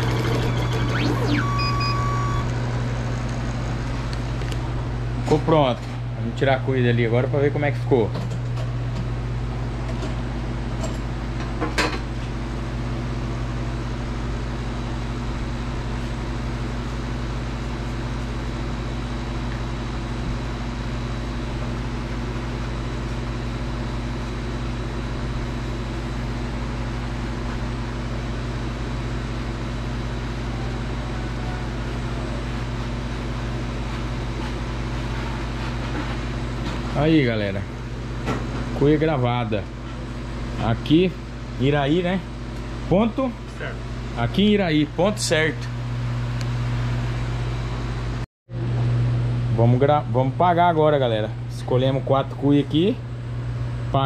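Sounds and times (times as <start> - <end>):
machine hum with low drone: 0.0 - 54.0.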